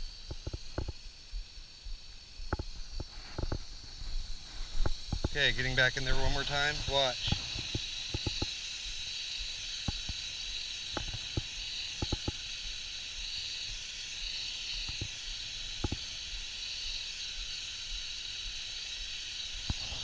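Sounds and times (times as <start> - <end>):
faint ticks: 0.0 - 20.0.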